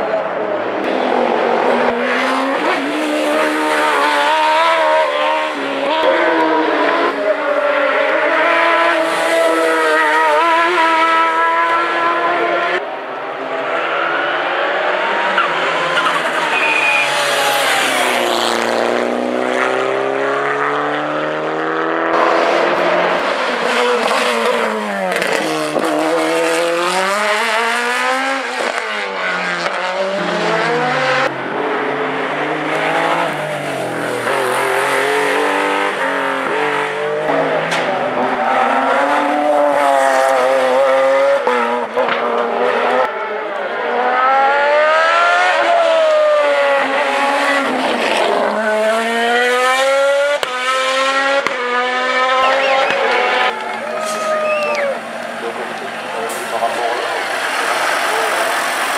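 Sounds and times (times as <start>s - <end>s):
race car engines revving: 0.0s - 58.9s.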